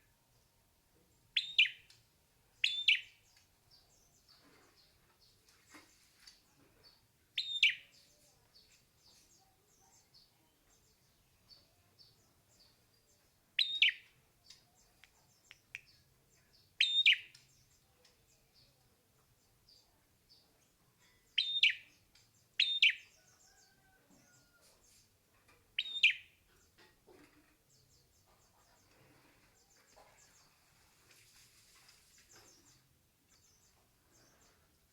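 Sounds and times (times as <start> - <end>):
soft bird chirps: 2.6 - 34.9.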